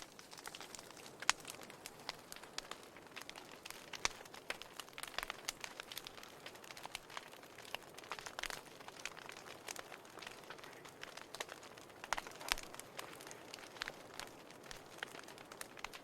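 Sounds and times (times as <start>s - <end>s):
fire crackling and popping: 0.0s - 16.0s
soft hiss of fire: 0.0s - 16.0s.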